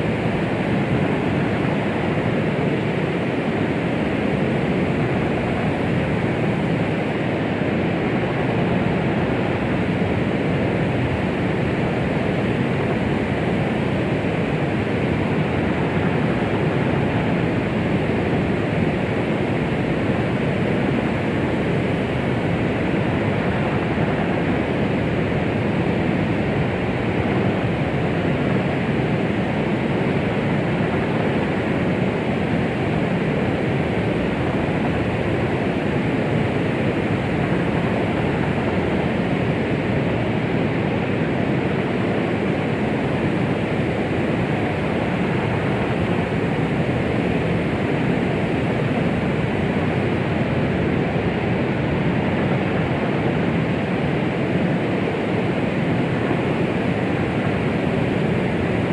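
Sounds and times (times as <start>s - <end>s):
deep white noise hiss: 0.0s - 58.9s.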